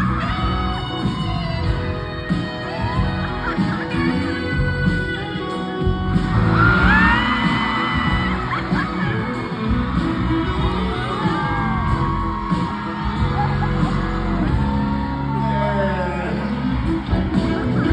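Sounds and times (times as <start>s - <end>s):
audience yelling and whooping: 0.0s - 17.9s
live pop band: 0.0s - 17.9s
person singing: 0.0s - 17.9s.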